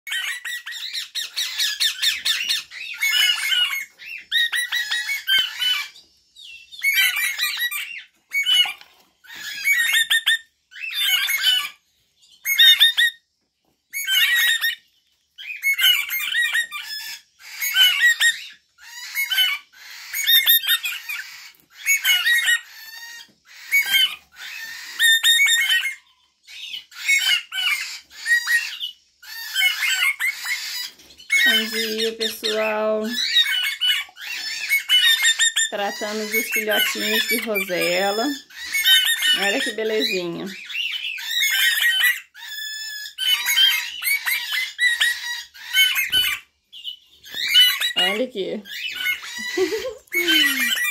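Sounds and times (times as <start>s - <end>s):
chicks begging calls: 0.1s - 50.9s.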